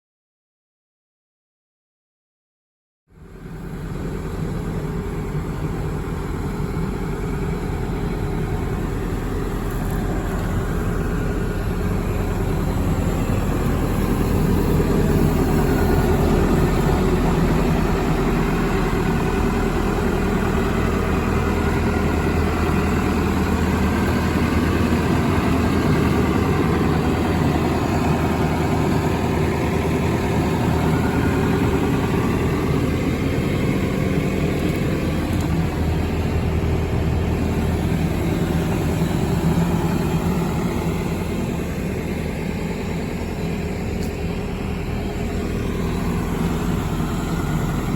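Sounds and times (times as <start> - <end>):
excavator diesel engine running: 3.1 - 47.9.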